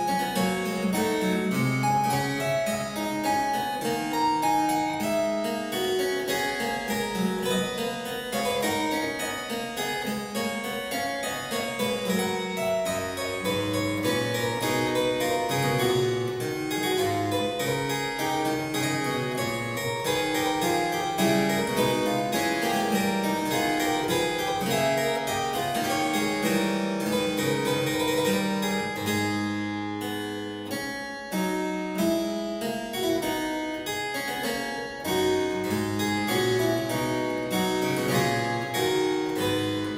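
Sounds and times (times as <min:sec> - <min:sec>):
solo harpsichord music: 0:00.0 - 0:39.9.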